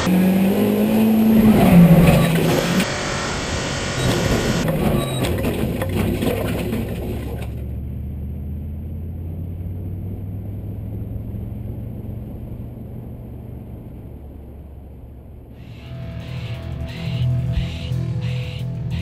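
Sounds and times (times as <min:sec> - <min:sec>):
car engine drone from inside: 0:00.0 - 0:19.0
road and wind noise: 0:00.0 - 0:19.0.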